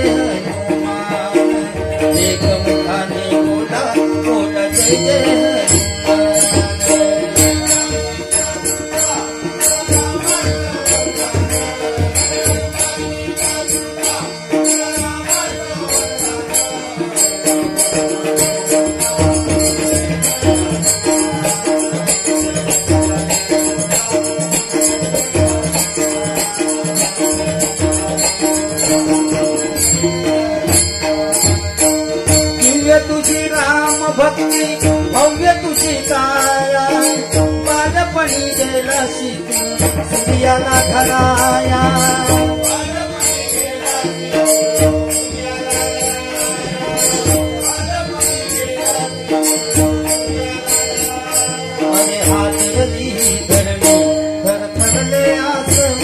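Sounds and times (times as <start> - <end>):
hand drum beat: 0.0 - 56.0
harmonium melody: 0.0 - 56.0.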